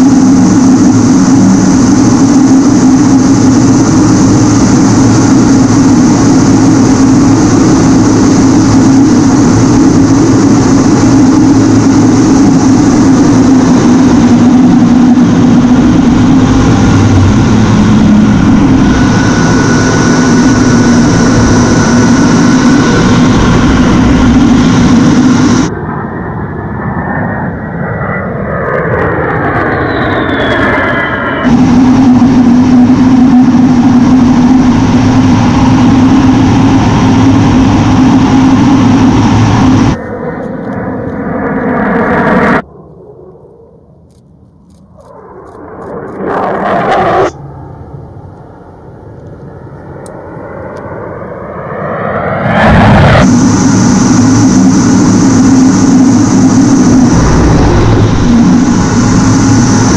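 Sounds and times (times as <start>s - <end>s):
jet passing overhead: 0.0s - 43.9s, 45.1s - 59.9s
jet engines whining and rumbling: 0.0s - 59.9s.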